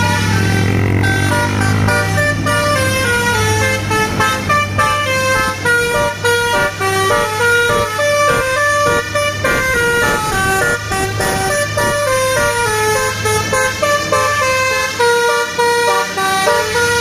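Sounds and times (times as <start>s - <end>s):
truck horn playing a melody: 0.0s - 17.0s.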